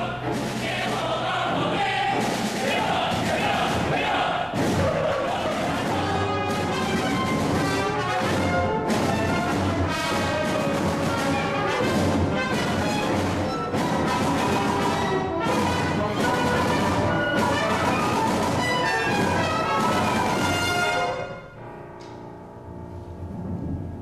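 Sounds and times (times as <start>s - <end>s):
contemporary classical ensemble music: 0.0s - 24.0s.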